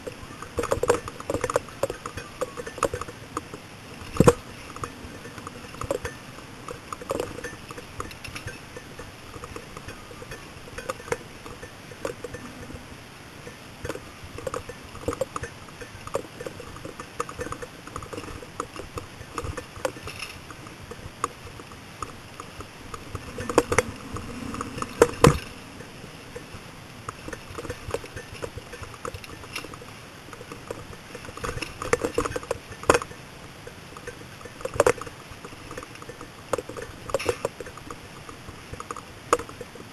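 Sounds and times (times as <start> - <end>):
bicycle rattling on rough trail: 0.0 - 39.9.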